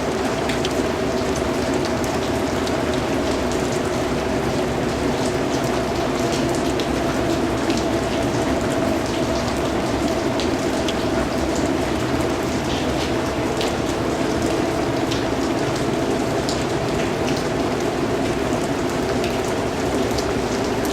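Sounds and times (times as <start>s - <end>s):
raindrops dripping: 0.0s - 20.9s.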